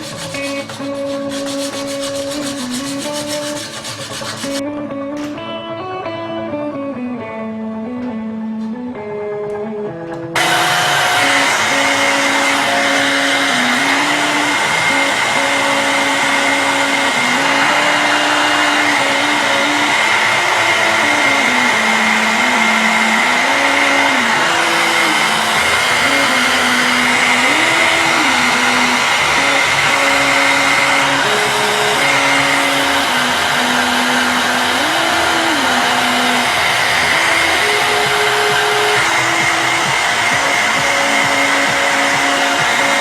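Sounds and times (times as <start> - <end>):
power tool motor humming: 0.0 - 4.6, 10.4 - 43.0.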